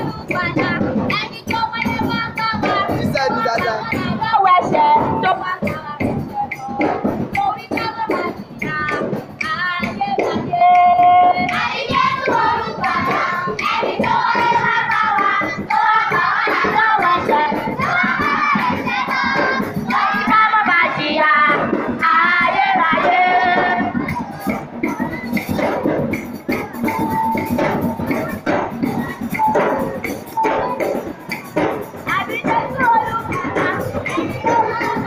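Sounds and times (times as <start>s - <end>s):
percussion beating: 0.0s - 35.0s
women singing together: 0.0s - 35.0s.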